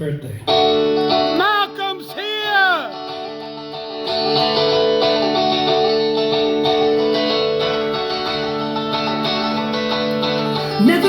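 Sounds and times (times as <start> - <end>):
plucked string instrument: 0.5 - 11.0.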